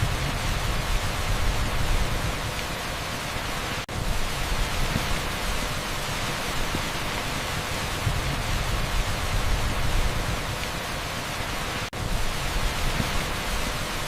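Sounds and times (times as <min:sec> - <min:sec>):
torrential rain on asphalt: 0:00.0 - 0:14.0.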